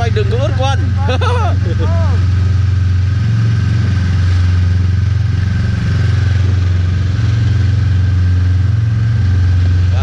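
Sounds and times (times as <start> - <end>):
snowmobile engine humming: 0.0 - 10.0.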